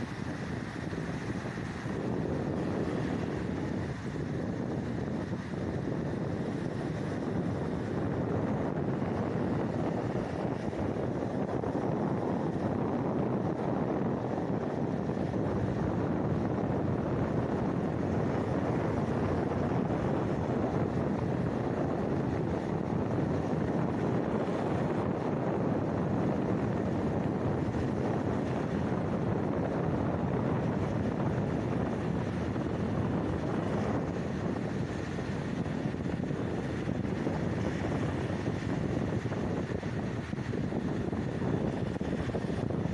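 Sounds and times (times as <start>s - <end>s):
sea: 0.0s - 42.9s
wind buffeting microphone: 0.0s - 42.9s
wind rushing: 0.0s - 42.9s.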